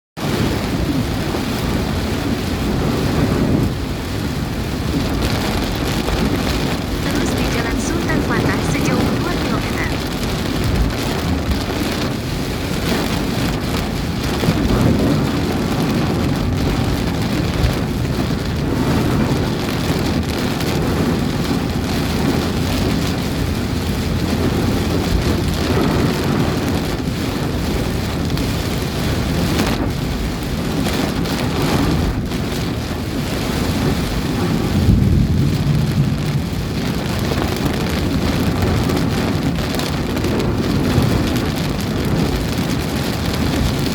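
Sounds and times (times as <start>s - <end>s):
heavy rain pouring: 0.2s - 43.9s
strong wind: 0.2s - 43.9s.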